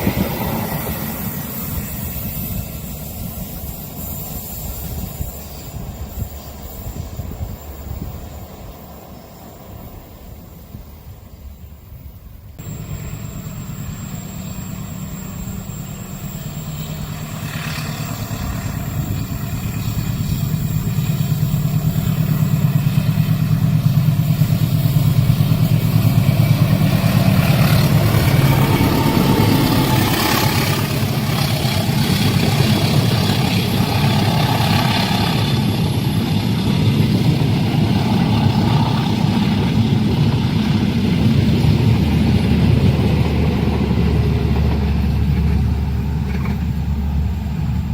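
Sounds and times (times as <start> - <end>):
train engine drone: 0.0 - 47.9
train rolling noise: 0.0 - 47.9.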